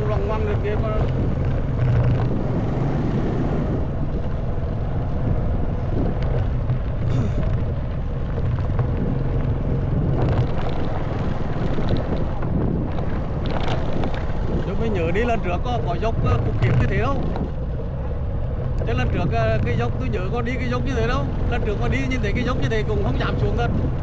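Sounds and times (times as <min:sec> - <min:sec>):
motorbike engine running: 0:00.0 - 0:24.0
wind buffeting microphone: 0:00.0 - 0:24.0.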